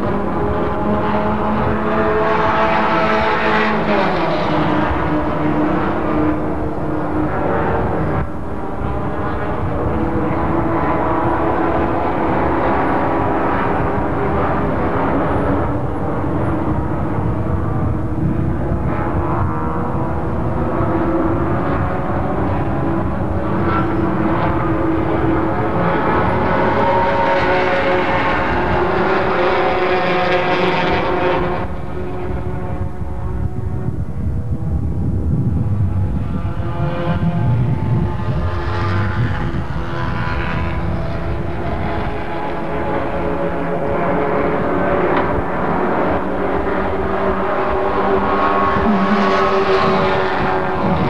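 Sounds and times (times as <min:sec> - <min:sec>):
racing car engines at speed: 0:00.0 - 0:51.0.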